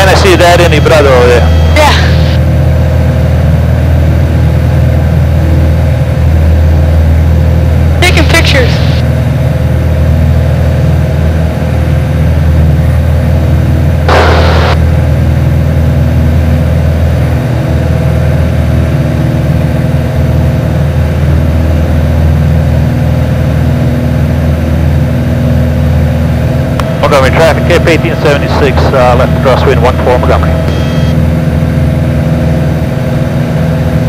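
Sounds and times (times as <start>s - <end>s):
airplane engine and propeller droning: 0.0s - 34.0s.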